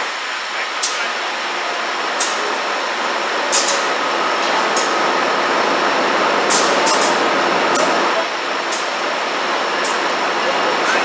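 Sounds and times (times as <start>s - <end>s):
diesel locomotive rumble and hiss: 0.0s - 11.0s.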